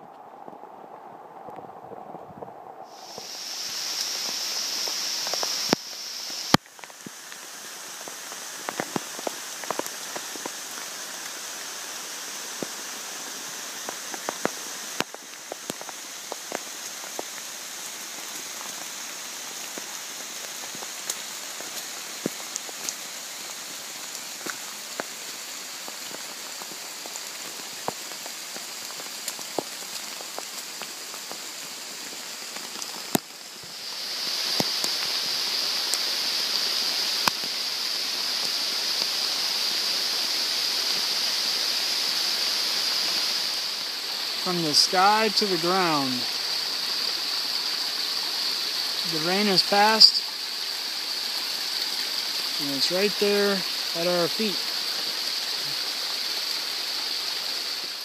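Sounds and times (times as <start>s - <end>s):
heavy rain hissing: 0.0s - 58.0s
sharp rain ticks: 0.0s - 58.0s.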